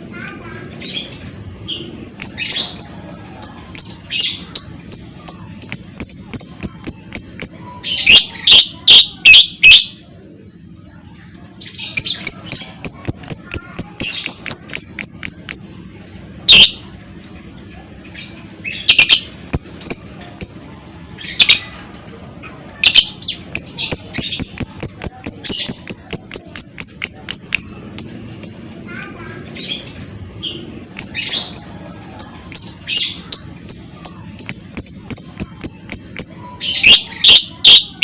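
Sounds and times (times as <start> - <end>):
bird rapid high chirps: 0.2 - 10.0, 11.6 - 15.8, 16.5 - 16.9, 18.2 - 20.6, 22.8 - 38.0.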